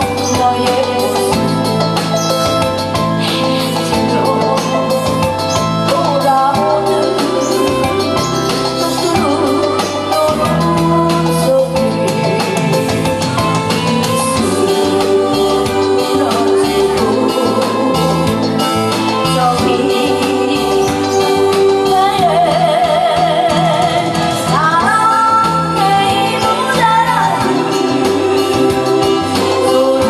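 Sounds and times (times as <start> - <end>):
amplified backing music: 0.0 - 30.0
woman singing into microphone: 0.0 - 30.0.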